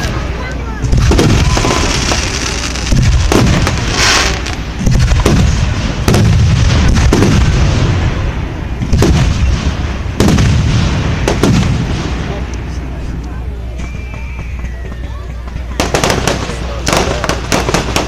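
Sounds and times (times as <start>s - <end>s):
fireworks booming: 0.0s - 18.0s
fireworks hissing crackle: 0.0s - 18.0s.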